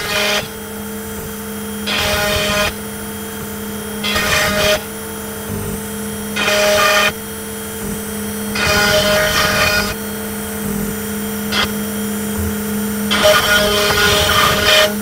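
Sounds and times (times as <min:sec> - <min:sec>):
router bit cutting wood: 0:00.0 - 0:15.0
router spindle hum: 0:00.0 - 0:15.0.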